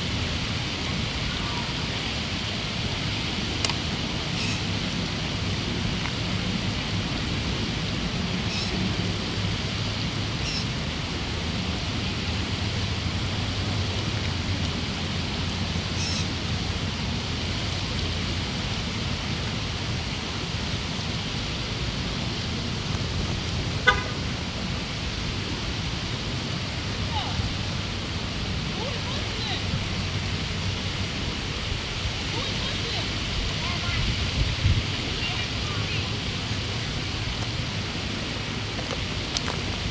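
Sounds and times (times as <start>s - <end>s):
distant road traffic rumble: 0.0s - 39.9s.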